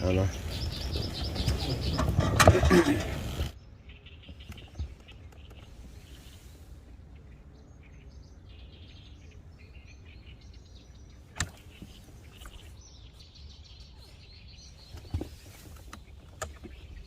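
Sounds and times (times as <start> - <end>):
low steady rumble: 0.0 - 17.0
small birds chirping: 0.0 - 17.0.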